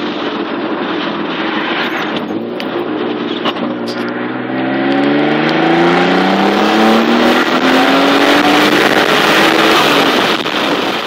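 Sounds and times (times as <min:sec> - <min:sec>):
car engine accelerating: 0:00.4 - 0:11.0.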